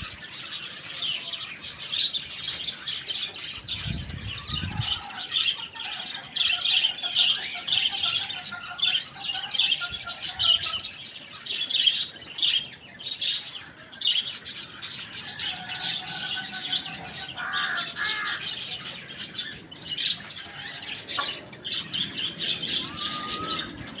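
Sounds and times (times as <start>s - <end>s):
small birds chirping: 0.0s - 24.0s
wavering bird calls: 0.0s - 24.0s.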